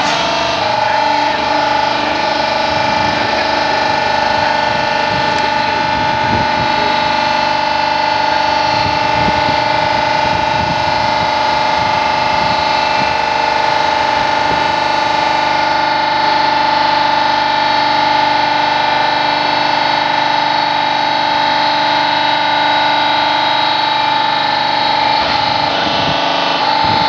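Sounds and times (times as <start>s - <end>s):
press machine motor whine: 0.0s - 27.0s.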